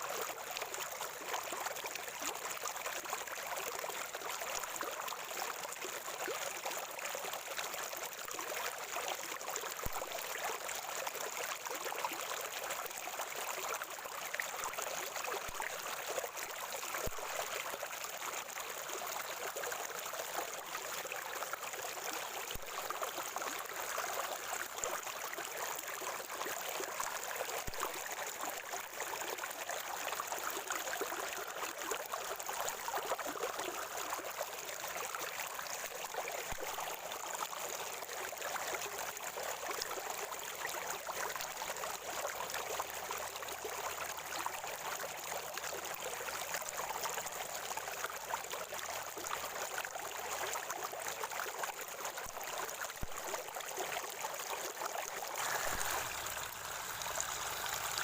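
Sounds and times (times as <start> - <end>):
spring water gurgling: 0.0 - 58.0.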